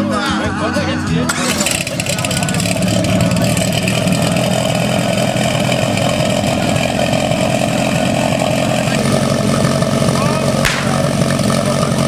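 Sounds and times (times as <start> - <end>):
small petrol engine running: 1.3 - 12.0.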